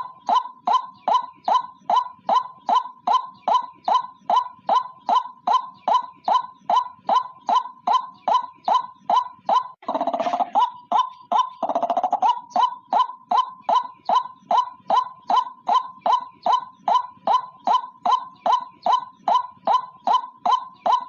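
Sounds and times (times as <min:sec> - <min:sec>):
bird calling kwak notes: 0:00.0 - 0:21.0.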